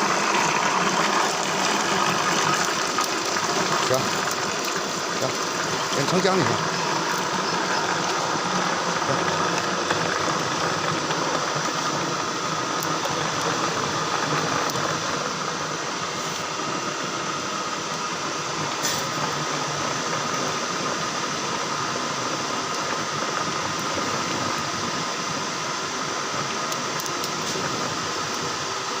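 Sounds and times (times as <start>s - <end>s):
grinding machine whining: 0.0s - 25.4s.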